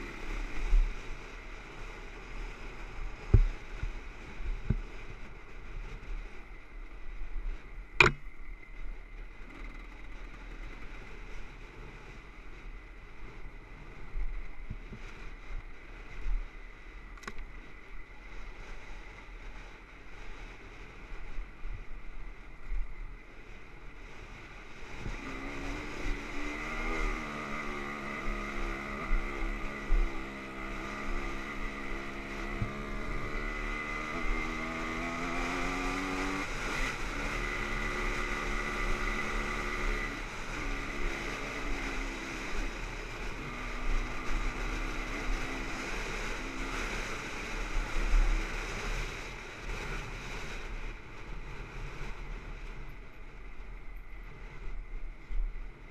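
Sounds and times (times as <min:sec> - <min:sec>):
dirt bike engine: 0:00.0 - 0:19.8, 0:22.3 - 0:55.9
wind rushing over microphone: 0:00.0 - 0:55.9.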